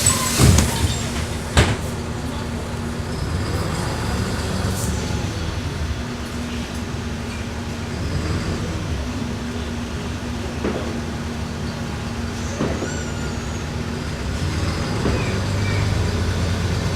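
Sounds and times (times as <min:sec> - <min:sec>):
bus engine and road noise: 0:00.0 - 0:16.9.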